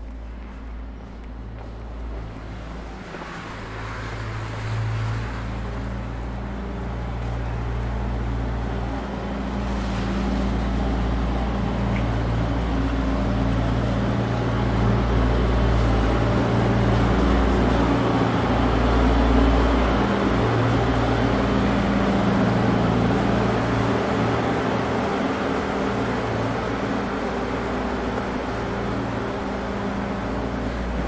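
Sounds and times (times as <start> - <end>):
low mechanical motor hum: 0.0 - 31.0.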